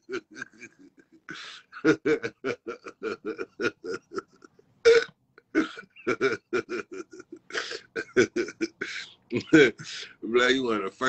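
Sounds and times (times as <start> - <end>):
man laughing hard: 0.0 - 5.0, 5.6 - 9.9.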